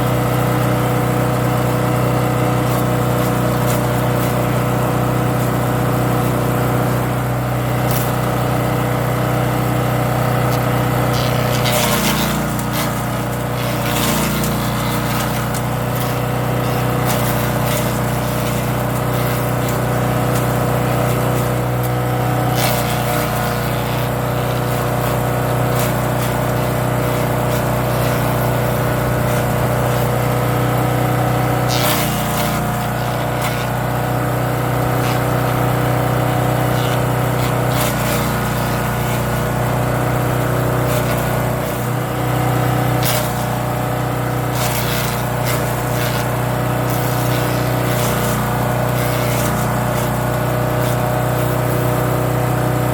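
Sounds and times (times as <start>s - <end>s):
wood chipper engine running: 0.0s - 52.9s
branches cracking in chipper: 0.2s - 52.9s.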